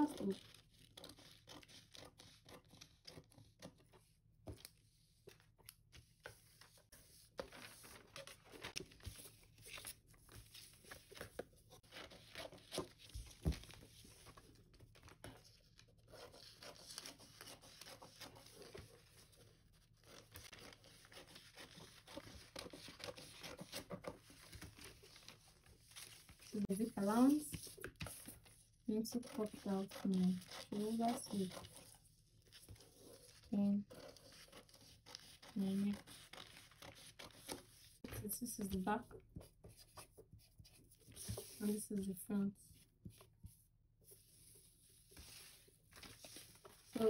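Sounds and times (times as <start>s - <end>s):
paper rustling and crinkling: 4.5s - 38.8s, 39.4s - 42.1s, 44.2s - 47.0s.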